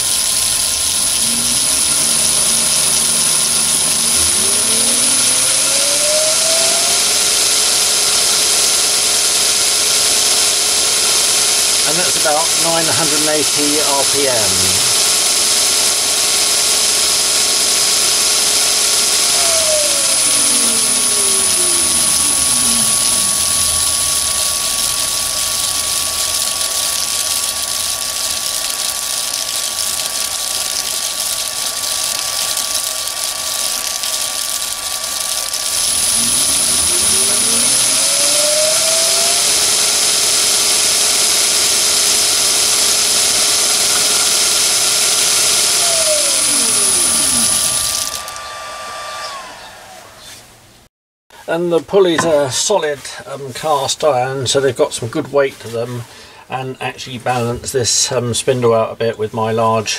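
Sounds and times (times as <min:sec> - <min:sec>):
lathe spindle running: 0:00.0 - 0:50.7, 0:52.0 - 0:54.2.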